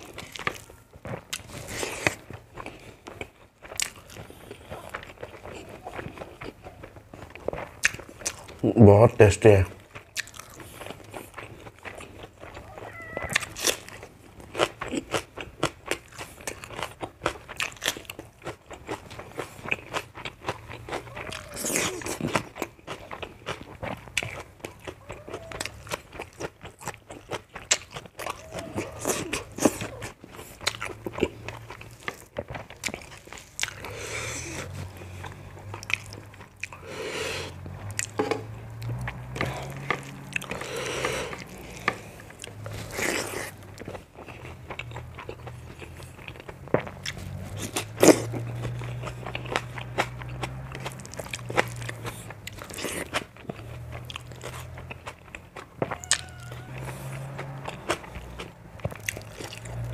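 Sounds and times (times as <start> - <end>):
wet chewing and lip smacks: 0.0 - 8.7, 9.7 - 59.9.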